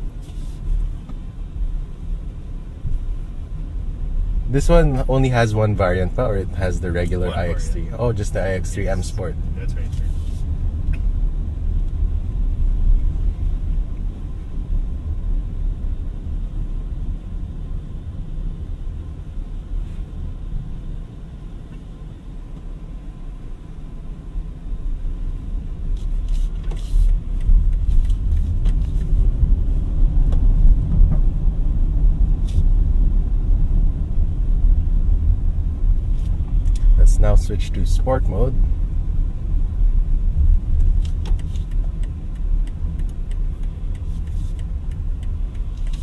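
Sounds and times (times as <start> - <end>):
road and tyre rumble in car cabin: 0.0 - 46.0.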